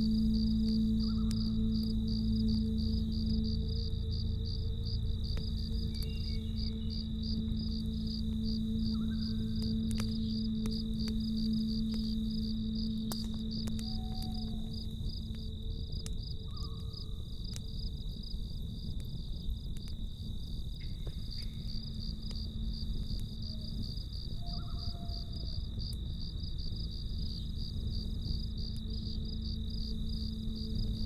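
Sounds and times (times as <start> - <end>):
campfire hissing: 0.0 - 24.4, 25.1 - 31.0
burning wood crackling: 0.0 - 31.0
crickets chirping: 0.0 - 31.0
faint low drone: 0.0 - 31.0.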